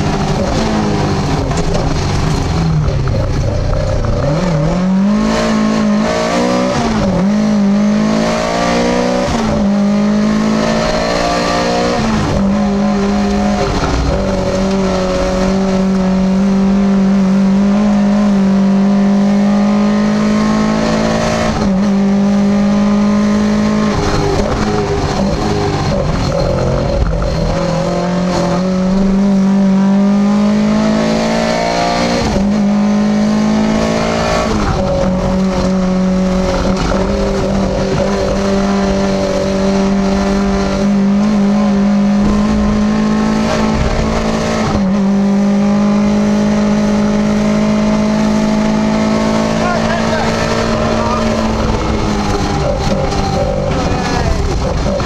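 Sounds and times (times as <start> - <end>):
rally car engine revving hard: 0.0 - 55.0.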